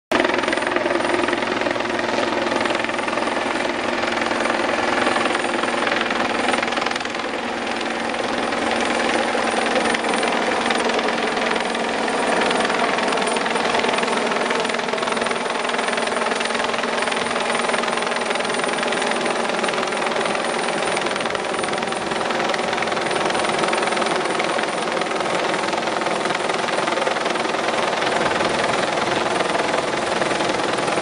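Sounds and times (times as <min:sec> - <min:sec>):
helicopter engine and gearbox tones: 0:00.1 - 0:31.0
helicopter rotor beating: 0:00.1 - 0:31.0.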